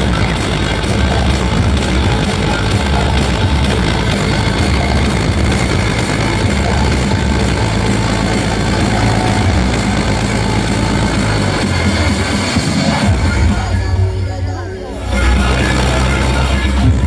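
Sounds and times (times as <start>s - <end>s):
loud music with pulsing bass: 0.0s - 17.0s.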